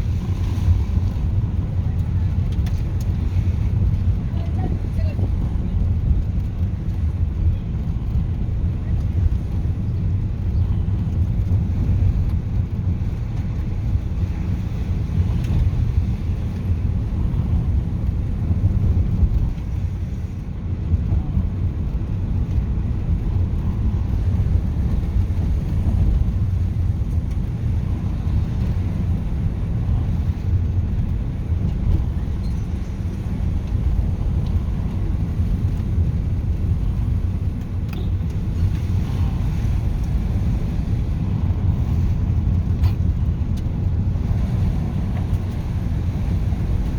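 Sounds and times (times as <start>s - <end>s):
moving car rumble: 0.0s - 46.9s.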